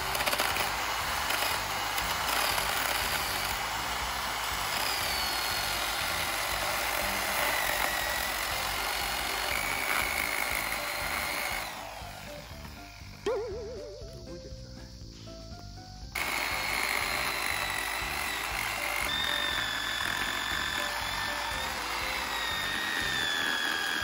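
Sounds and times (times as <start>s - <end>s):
chainsaw cutting wood: 0.0s - 13.2s, 16.2s - 24.0s.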